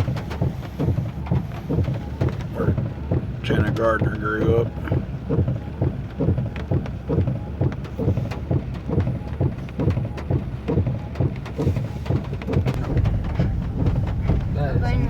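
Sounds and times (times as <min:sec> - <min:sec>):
rain tapping on truck: 0:00.0 - 0:15.0
truck engine rumbling: 0:00.0 - 0:15.0.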